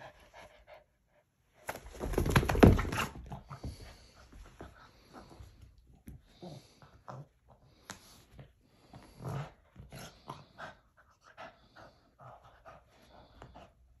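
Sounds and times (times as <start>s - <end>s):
dog panting: 0.0s - 1.4s, 3.4s - 14.0s.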